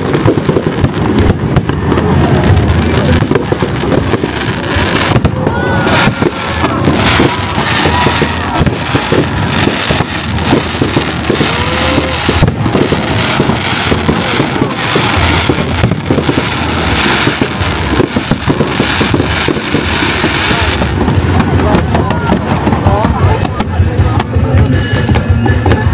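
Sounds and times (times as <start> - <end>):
fireworks bursting bangs: 0.0 - 25.9.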